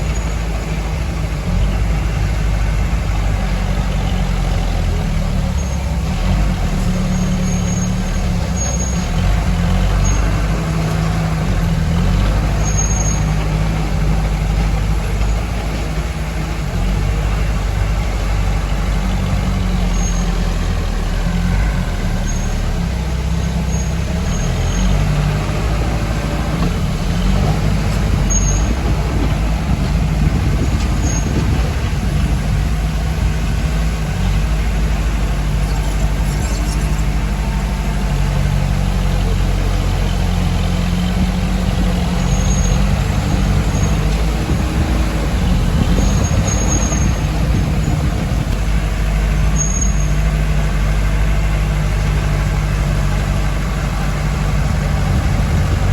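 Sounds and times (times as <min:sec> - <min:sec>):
heavy diesel engines rumbling: 0:00.0 - 0:55.9.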